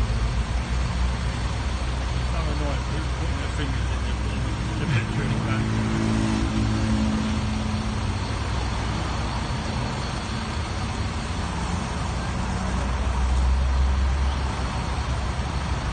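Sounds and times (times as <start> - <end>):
heavy machinery engines rumbling: 0.0 - 15.9.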